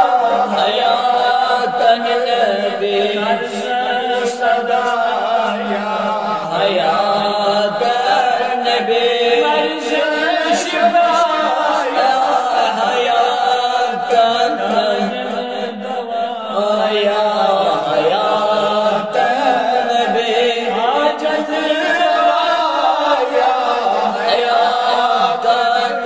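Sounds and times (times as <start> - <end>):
voices chanting devotional salutation: 0.0 - 26.0.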